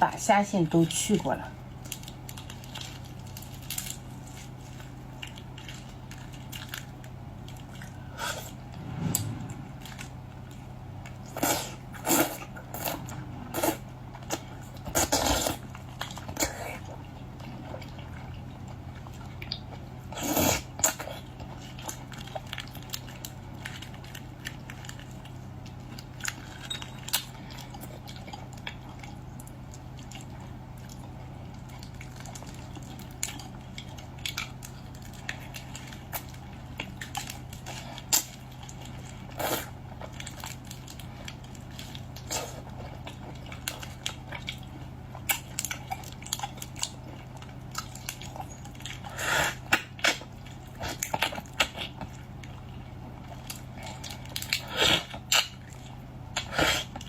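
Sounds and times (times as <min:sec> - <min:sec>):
steady low hum: 0:00.0 - 0:57.0
chewing and handling squishes: 0:00.8 - 0:57.0.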